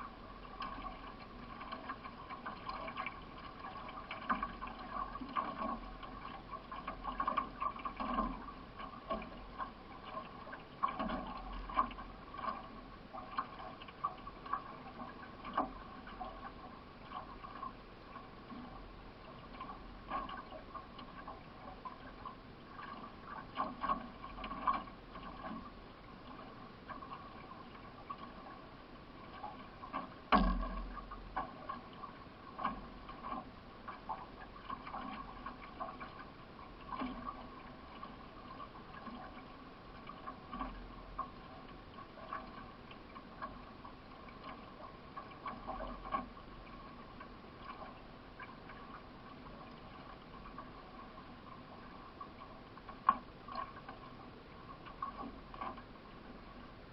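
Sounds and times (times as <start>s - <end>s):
paddle splashes: 0.0s - 56.9s
water splashing against canoe: 0.0s - 56.9s.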